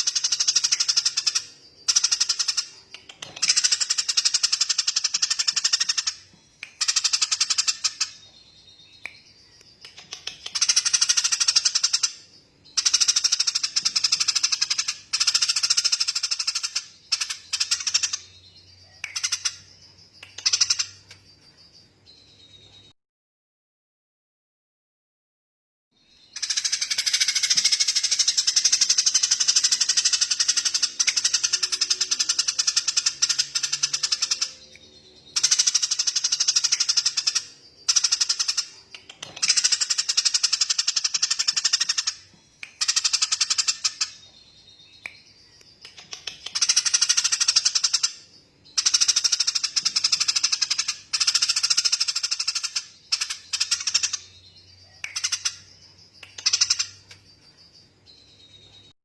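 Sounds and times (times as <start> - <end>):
songbird rapid rattling trill: 0.0 - 6.2, 9.7 - 21.6, 26.3 - 34.7, 35.3 - 58.5.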